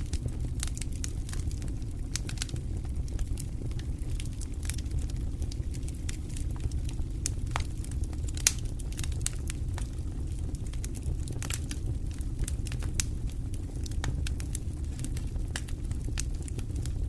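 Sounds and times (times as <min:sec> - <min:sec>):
fire pops and snaps: 0:00.0 - 0:17.0
low rumble of flames: 0:00.0 - 0:17.0.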